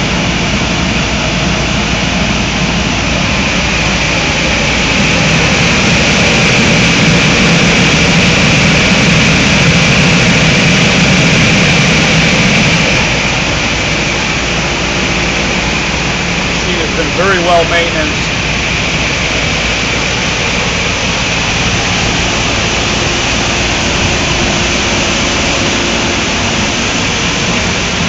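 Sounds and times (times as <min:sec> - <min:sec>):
low machine hum: 0:00.0 - 0:28.0
machine blowers whirring: 0:00.0 - 0:28.0.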